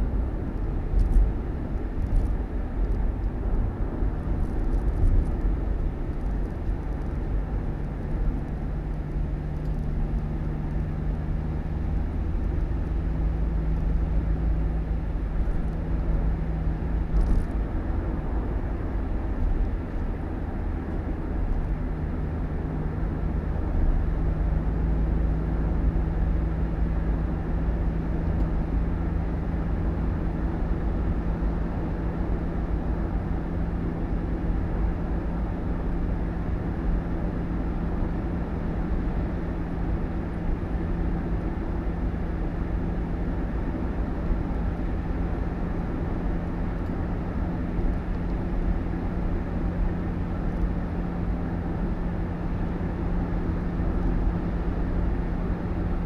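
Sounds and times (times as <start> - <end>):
vehicle engine and tyres rumbling: 0.0 - 56.0.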